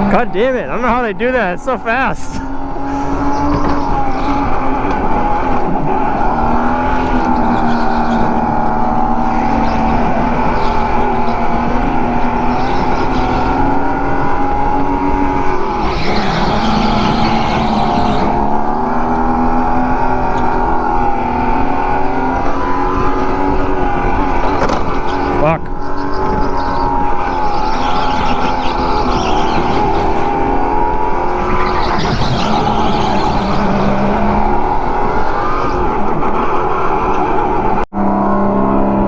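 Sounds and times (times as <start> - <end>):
go-kart motor whine: 2.3 - 39.0.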